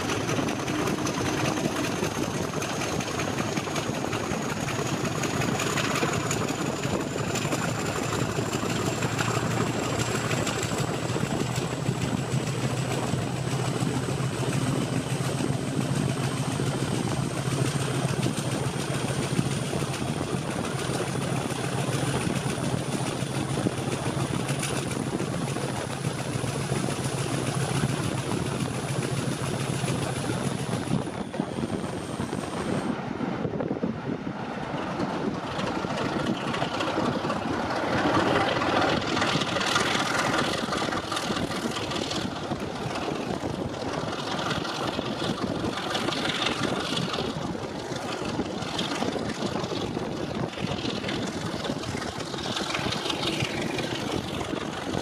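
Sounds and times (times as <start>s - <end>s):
diesel locomotive engine hum: 0.0s - 55.0s
rough loud engine sound: 0.0s - 55.0s.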